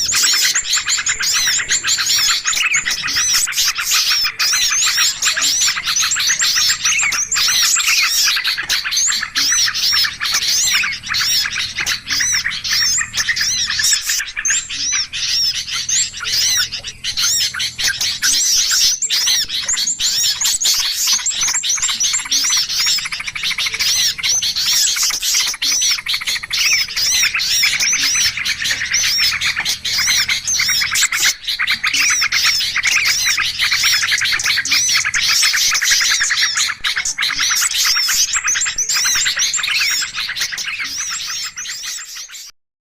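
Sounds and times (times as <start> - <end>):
many small birds chirping: 0.0 - 42.6.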